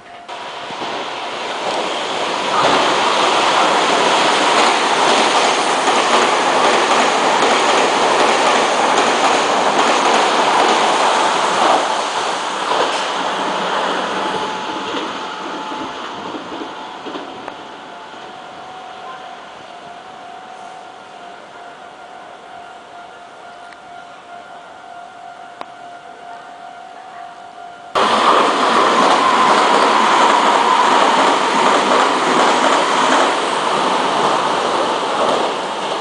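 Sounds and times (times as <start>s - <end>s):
electric train passing at speed: 0.0s - 27.1s, 27.8s - 36.0s.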